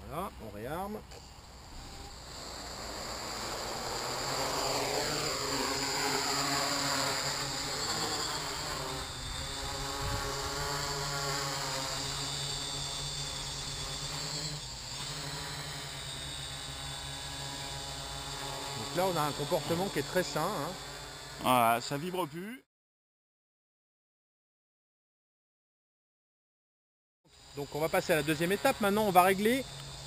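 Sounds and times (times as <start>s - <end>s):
quadcopter motors buzzing: 0.0s - 22.6s, 27.3s - 30.0s.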